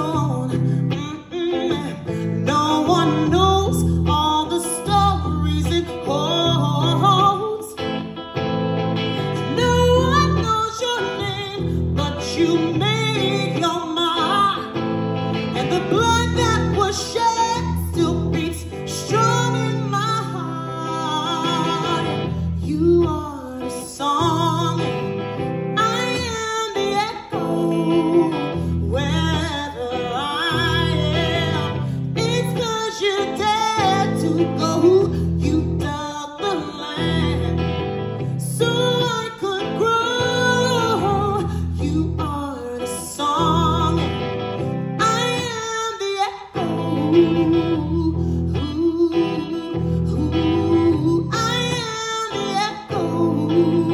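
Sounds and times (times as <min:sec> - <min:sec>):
woman singing into microphone: 0:00.0 - 0:08.1, 0:09.2 - 0:53.9
electric guitar: 0:00.0 - 0:53.9.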